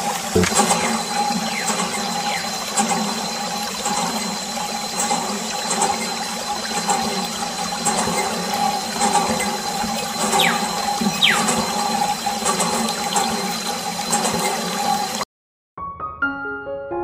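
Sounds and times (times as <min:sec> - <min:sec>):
small pump motor humming: 0:00.0 - 0:15.2
water jet splashing: 0:00.0 - 0:15.2.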